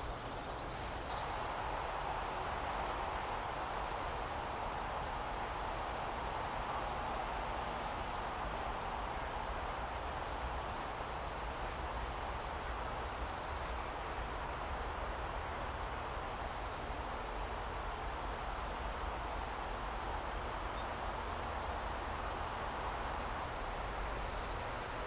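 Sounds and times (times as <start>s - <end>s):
small birds chirping: 0.0s - 2.0s, 3.2s - 14.6s, 15.6s - 19.8s, 20.4s - 25.0s.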